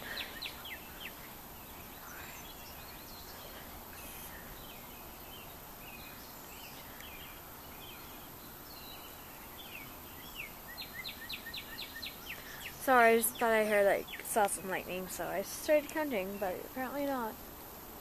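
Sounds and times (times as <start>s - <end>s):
birds chirping: 0.0s - 17.4s
light rain falling: 0.0s - 18.0s.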